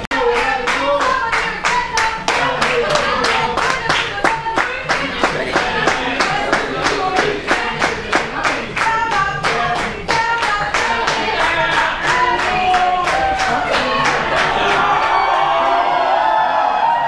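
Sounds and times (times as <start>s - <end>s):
group singing unaccompanied: 0.1s - 16.2s
hands clapping: 0.3s - 15.3s.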